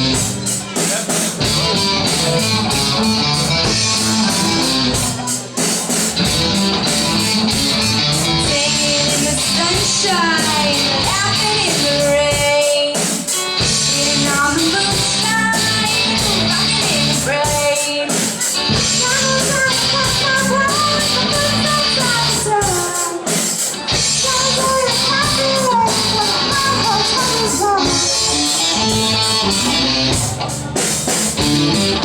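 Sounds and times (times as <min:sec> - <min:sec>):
person singing: 0:00.0 - 0:30.3
drums: 0:00.0 - 0:32.0
electric guitar: 0:00.0 - 0:32.0.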